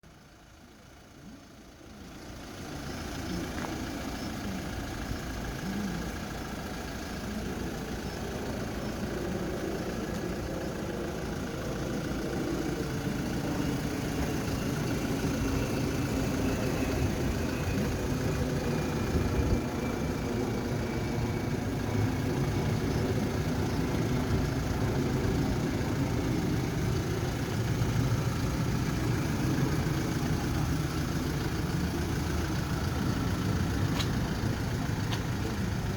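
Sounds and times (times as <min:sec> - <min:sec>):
diesel truck engine idling: 0:00.0 - 0:35.9.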